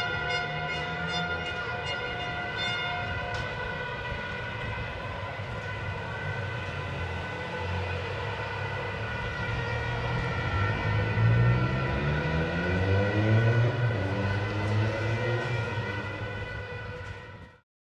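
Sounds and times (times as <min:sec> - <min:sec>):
low traffic rumble: 0:00.0 - 0:17.6.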